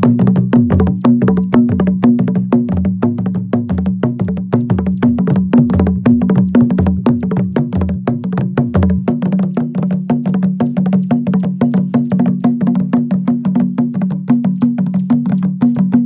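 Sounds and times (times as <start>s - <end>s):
deep drum: 0.0s - 16.0s
hand drums slapping: 0.0s - 16.0s.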